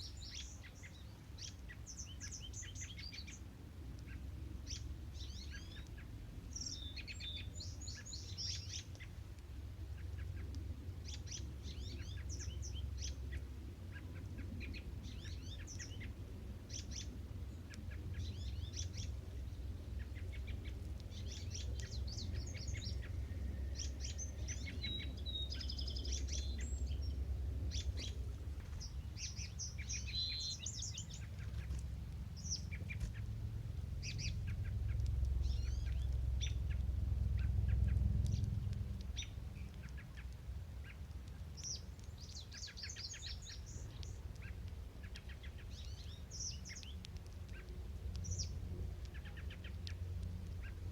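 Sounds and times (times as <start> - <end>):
songbirds singing: 0.0 - 50.9
steady low rumble: 0.0 - 50.9.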